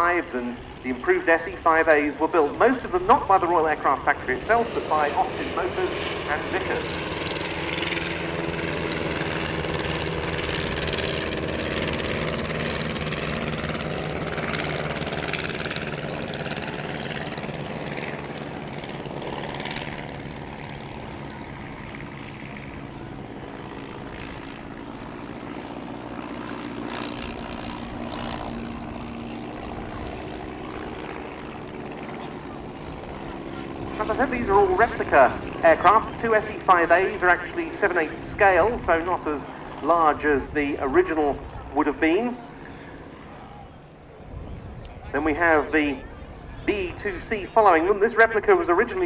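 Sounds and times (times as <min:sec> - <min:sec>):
biplane piston engines droning: 0:00.0 - 0:49.0.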